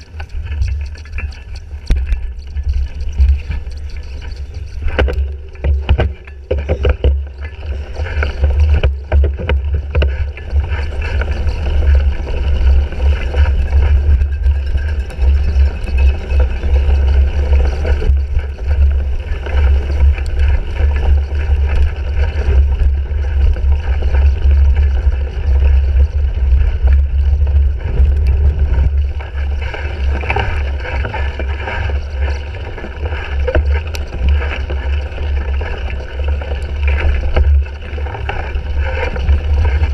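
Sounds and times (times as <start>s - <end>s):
wind and vibration rumble: 0.0s - 39.9s.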